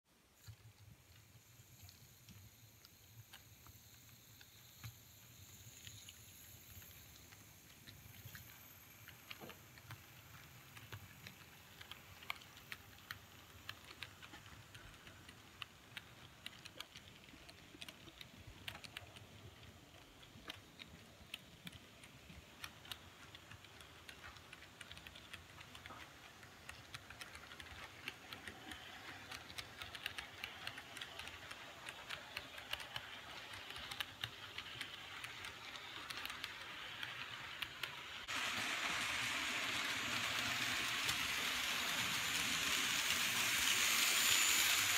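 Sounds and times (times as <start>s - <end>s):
faint hiss: 0.2s - 44.9s
model train clicking on track: 0.3s - 44.9s.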